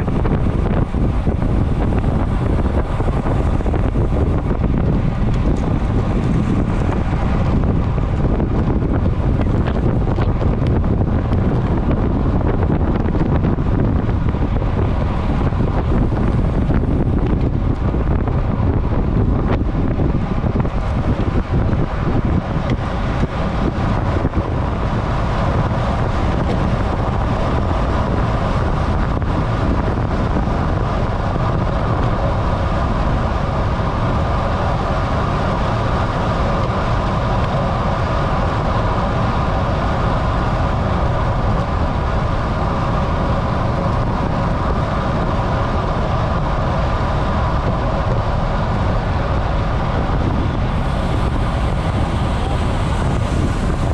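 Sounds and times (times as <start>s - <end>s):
tyre noise on asphalt: 0.0s - 53.9s
wind rush over microphone: 0.0s - 53.9s.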